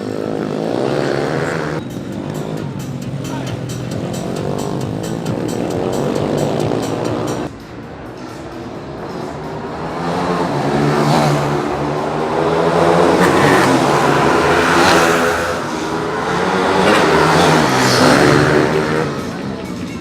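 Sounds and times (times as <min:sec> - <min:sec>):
small motorbike engines revving: 0:00.0 - 0:07.5, 0:09.0 - 0:20.0.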